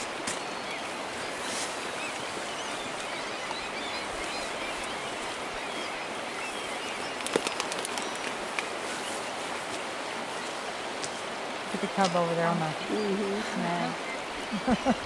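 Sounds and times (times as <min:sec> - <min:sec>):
river rushing over gravel: 0:00.0 - 0:15.0.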